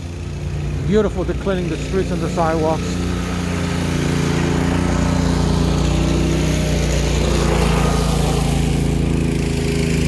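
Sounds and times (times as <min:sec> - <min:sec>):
snow-clearing machine engine running: 0:00.0 - 0:10.0.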